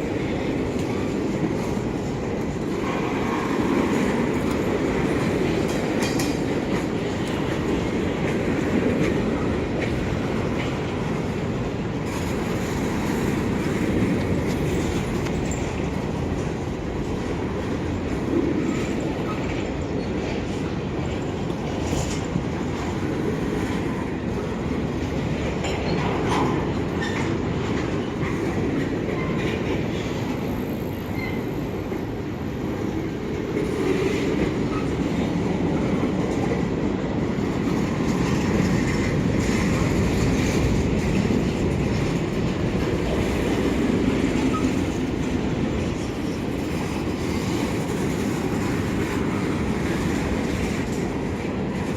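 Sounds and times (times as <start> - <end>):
freight cars rolling on rails: 0.0 - 51.9.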